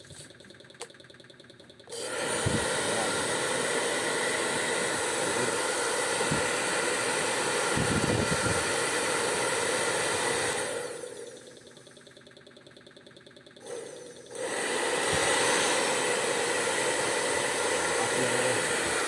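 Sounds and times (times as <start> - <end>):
hair dryer running: 1.9 - 11.8, 13.6 - 19.0.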